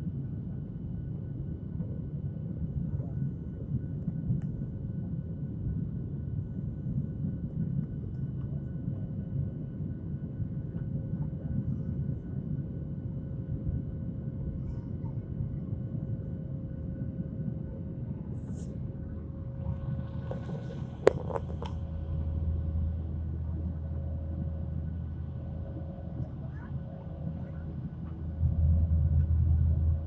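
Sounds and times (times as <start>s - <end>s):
faint steady whine: 0.0s - 30.0s
jet engine cabin rumble: 0.0s - 30.0s.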